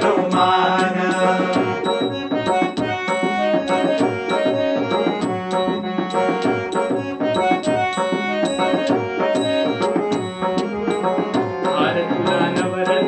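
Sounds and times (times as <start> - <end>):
harmonium reedy notes: 0.0 - 13.0
percussion beat: 0.0 - 13.0.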